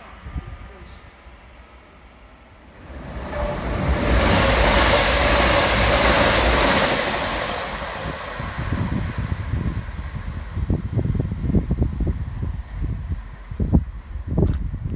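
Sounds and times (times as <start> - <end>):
train passing at speed: 0.0 - 14.3.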